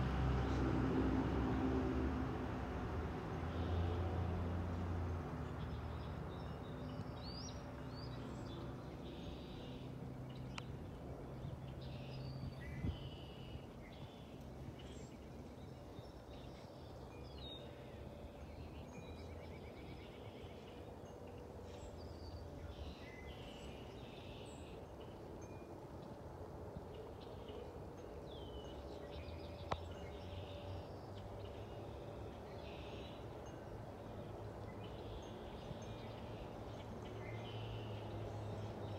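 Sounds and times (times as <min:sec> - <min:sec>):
small birds chirping: 0:05.3 - 0:25.6, 0:26.9 - 0:38.9.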